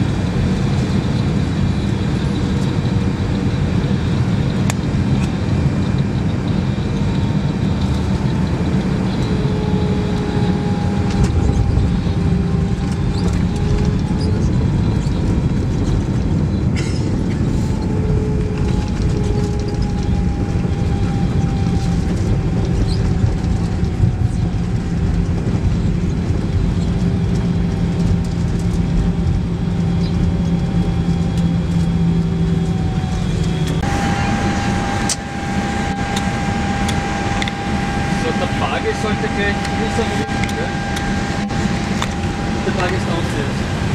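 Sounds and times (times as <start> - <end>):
airplane cabin roar: 0.0 - 43.9
faint engine whine: 0.0 - 43.9.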